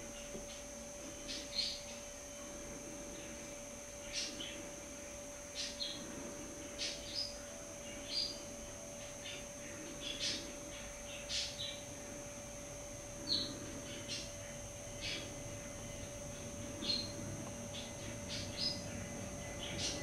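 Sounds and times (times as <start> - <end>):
faint steady hum: 0.0 - 20.0
songbirds chirping: 0.0 - 20.0.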